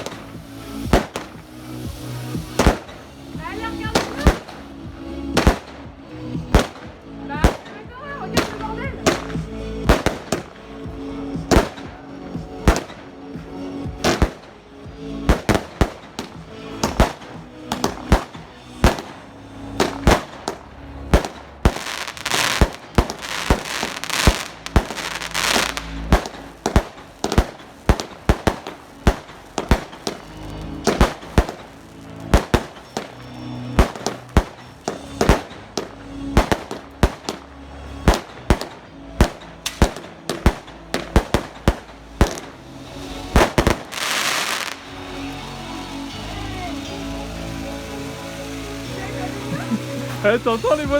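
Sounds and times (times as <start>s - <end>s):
fireworks bangs: 0.0s - 45.2s
firework hissing: 0.0s - 50.9s.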